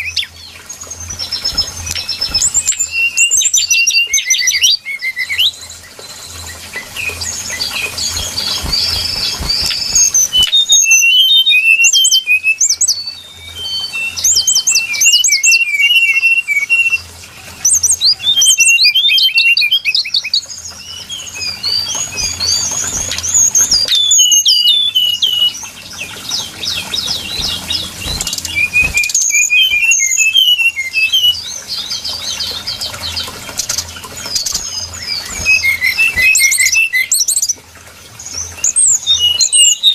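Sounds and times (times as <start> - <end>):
recorded bird song: 0.0 - 39.9.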